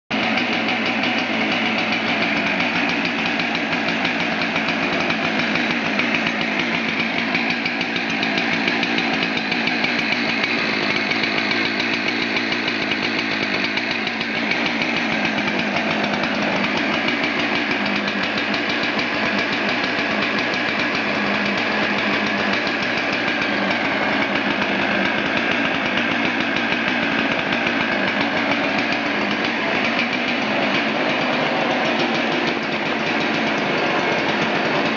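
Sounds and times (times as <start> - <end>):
chainsaw engine running: 0.1 - 34.9.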